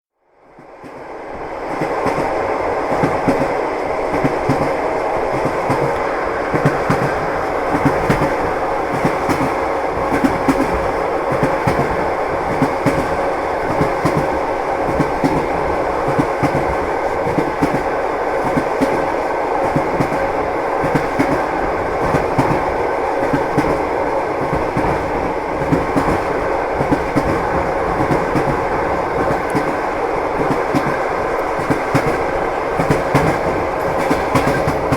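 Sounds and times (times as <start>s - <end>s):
train wheels clattering on rails: 1.7s - 34.9s.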